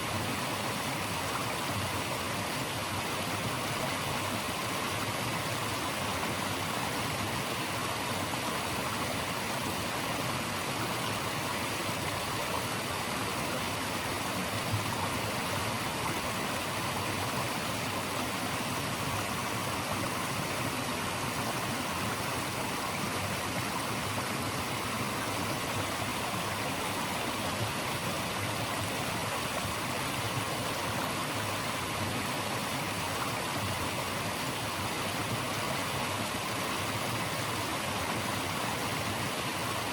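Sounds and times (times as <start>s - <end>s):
rush of running water: 0.0s - 39.9s.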